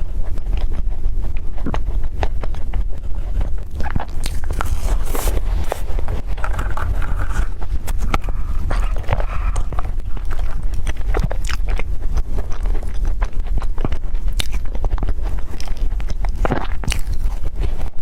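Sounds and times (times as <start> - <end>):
steady low hum: 0.0 - 18.0
wet chewing and mouth clicks: 0.0 - 18.0.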